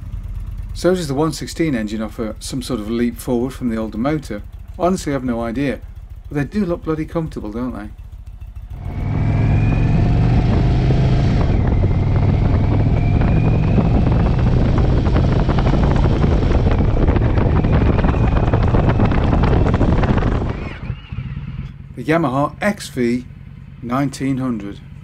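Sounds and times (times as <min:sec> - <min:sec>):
motorcycle engine at speed: 0:00.0 - 0:25.0.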